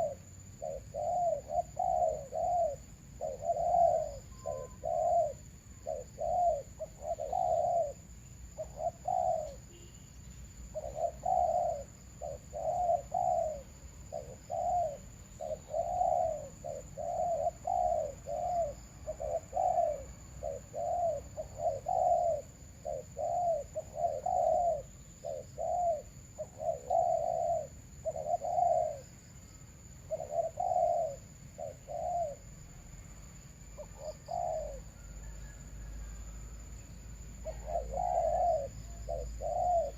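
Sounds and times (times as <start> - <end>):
doves cooing: 0.0 - 9.8, 10.7 - 29.2, 30.0 - 32.6, 33.6 - 39.9.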